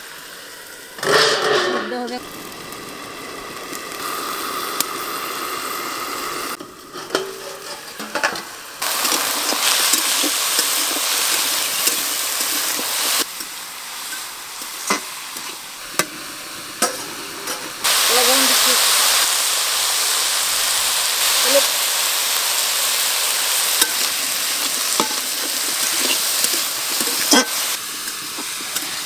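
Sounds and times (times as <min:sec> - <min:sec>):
vegetables sizzling in a pan: 0:00.0 - 0:29.0.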